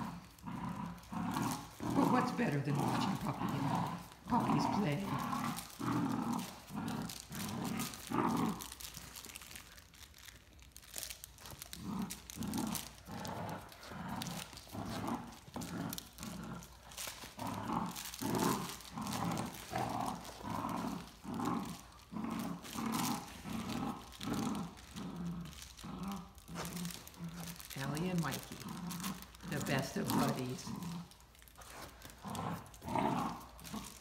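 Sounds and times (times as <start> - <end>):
dogs growling in play: 0.0 - 34.0.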